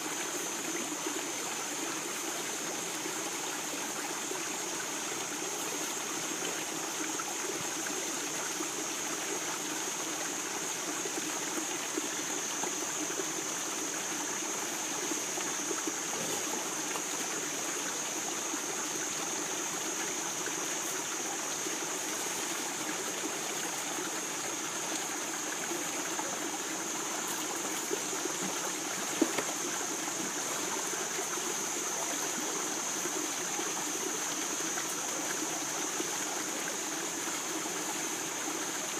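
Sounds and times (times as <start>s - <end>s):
high-pitched hiss: 0.0s - 38.9s
river flowing over stones: 0.0s - 38.9s.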